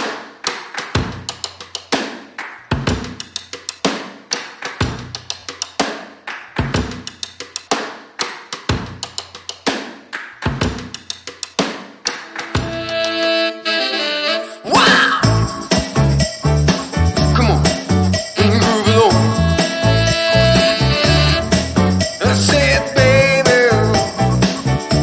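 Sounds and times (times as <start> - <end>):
drum kit playing a steady beat: 1.0 - 13.2, 14.8 - 25.0.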